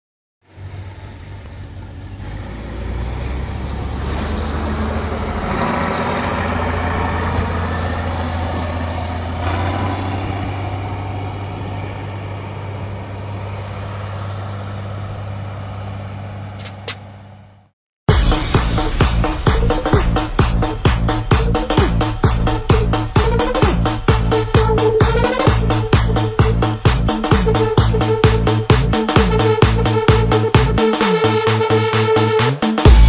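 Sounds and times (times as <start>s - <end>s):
combine harvester diesel engine: 0.4s - 33.0s.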